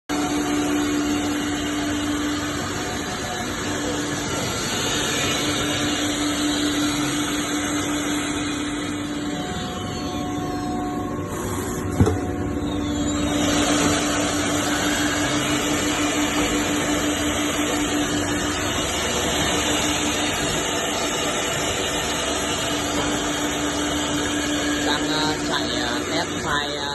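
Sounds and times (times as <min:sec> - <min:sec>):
wood router whirring: 0:00.1 - 0:26.9.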